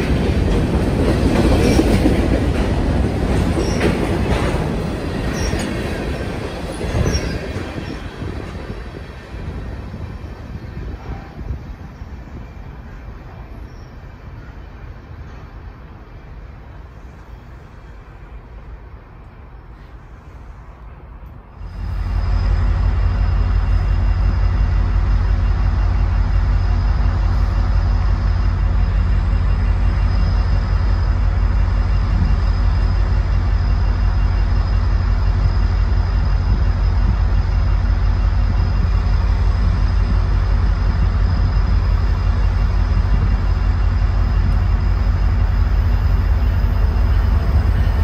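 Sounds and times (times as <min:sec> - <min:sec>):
distant train rumbling: 0:00.0 - 0:48.0.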